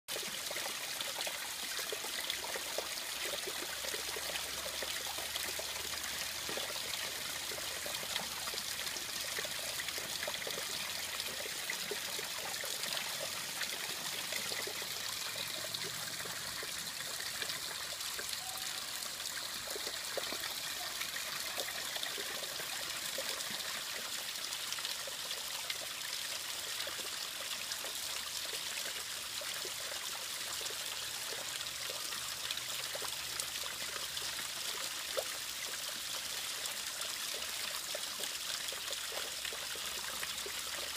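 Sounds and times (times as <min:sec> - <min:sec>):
water trickling and splashing: 0:00.1 - 0:40.9.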